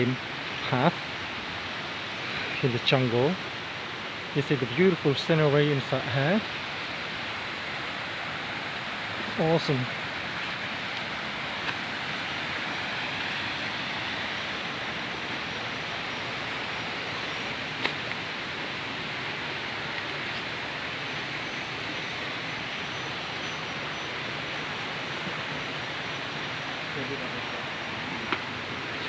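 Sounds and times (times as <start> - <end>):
flowing water rushing: 0.0 - 29.0.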